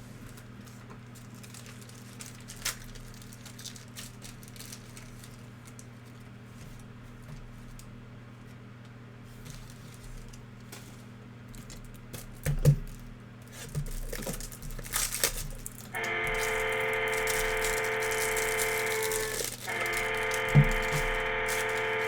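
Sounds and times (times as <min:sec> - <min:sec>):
plastic wrap crinkling: 0:00.2 - 0:06.4, 0:09.4 - 0:22.0.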